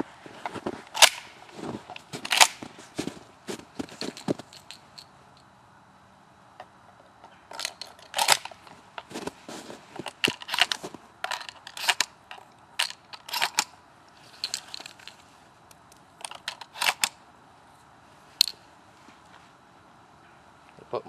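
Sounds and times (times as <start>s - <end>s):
crackling and rustling: 0.0s - 5.1s, 6.6s - 19.7s.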